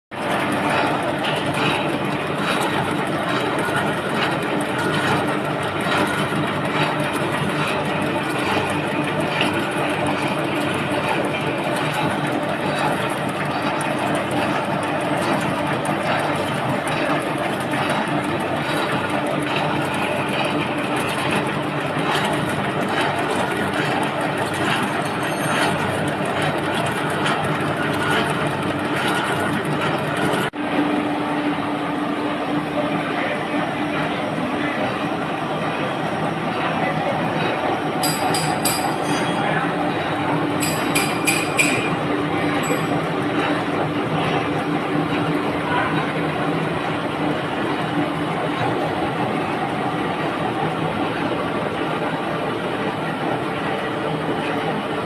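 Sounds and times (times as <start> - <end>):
industrial machinery humming: 0.1 - 55.0.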